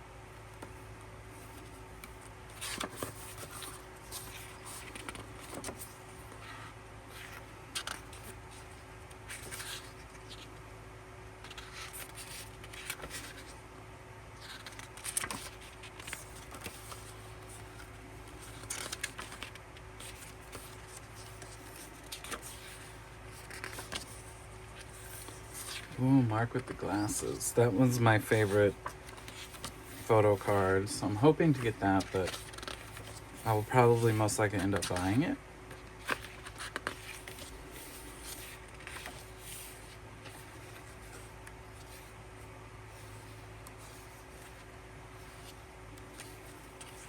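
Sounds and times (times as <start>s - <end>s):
faint steady hum: 0.0s - 47.0s
paper pages rustling: 0.6s - 10.6s, 11.4s - 13.6s, 14.4s - 47.0s.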